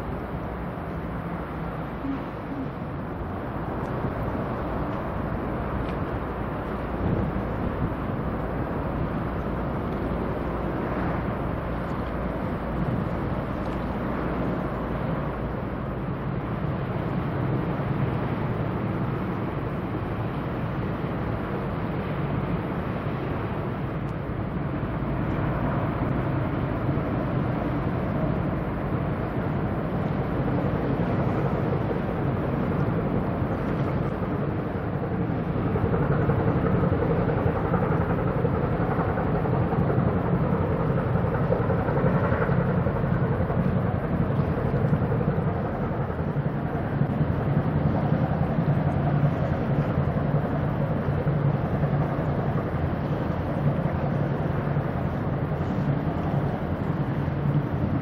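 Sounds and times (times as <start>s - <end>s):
ship diesel engine drone: 0.0s - 58.0s
wind on microphone: 0.0s - 58.0s.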